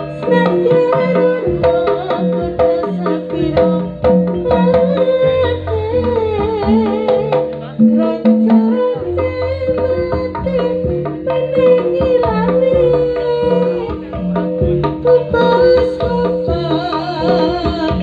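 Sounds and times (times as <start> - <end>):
hand drums beating: 0.0 - 18.0
held low tones: 0.0 - 18.0
wavering sliding melody: 0.0 - 18.0.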